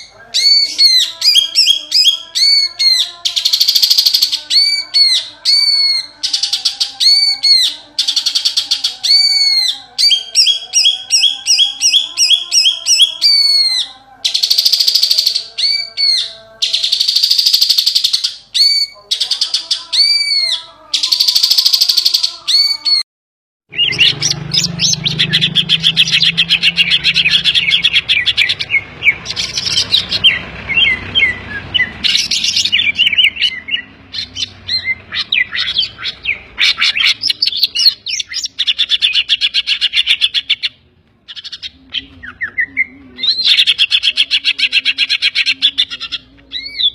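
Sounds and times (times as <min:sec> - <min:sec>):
bird singing: 0:00.0 - 0:23.0, 0:23.7 - 0:46.9.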